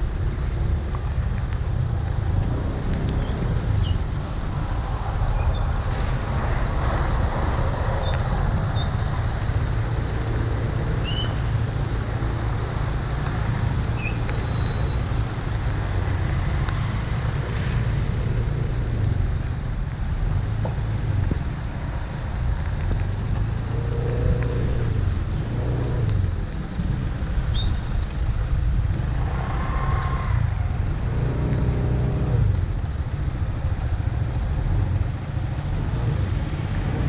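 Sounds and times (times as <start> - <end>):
traffic rumble: 0.0 - 37.0.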